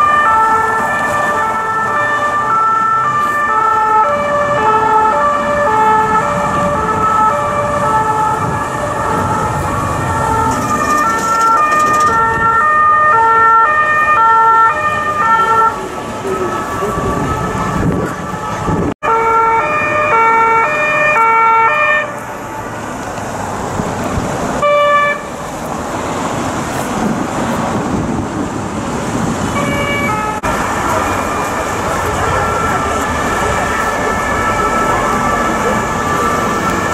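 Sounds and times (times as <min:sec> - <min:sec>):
two-tone police sirens: 0:00.0 - 0:23.4, 0:24.6 - 0:25.5, 0:29.5 - 0:36.9
road traffic: 0:00.0 - 0:36.9.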